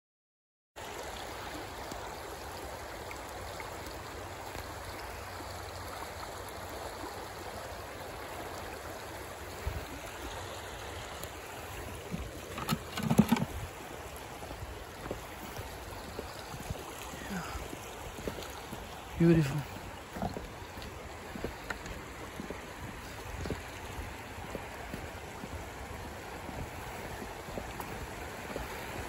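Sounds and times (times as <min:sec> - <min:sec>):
creek running over rocks: 0:00.8 - 0:29.0.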